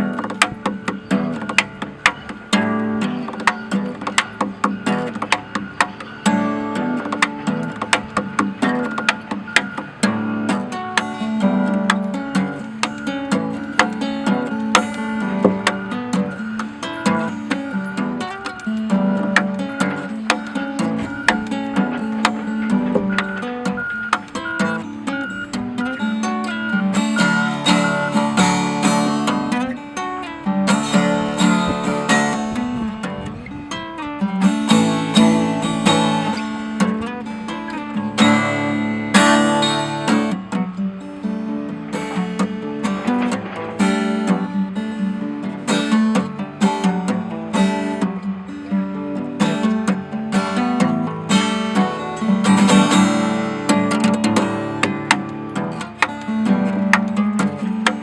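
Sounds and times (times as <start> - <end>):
acoustic guitar: 0.0 - 58.0.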